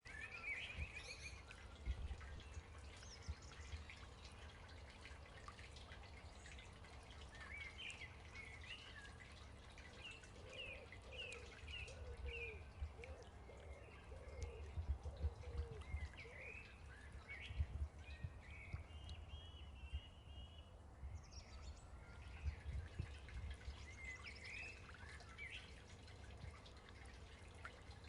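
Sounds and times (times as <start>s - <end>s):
songbirds calling: 0.0s - 28.0s
trickling water: 0.0s - 28.0s.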